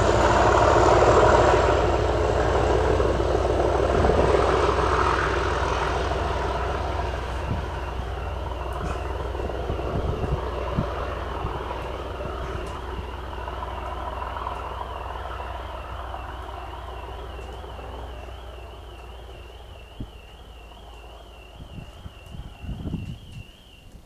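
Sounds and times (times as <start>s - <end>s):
car alarm warbling: 0.0s - 24.0s
diesel locomotive engine rumble: 0.0s - 24.0s.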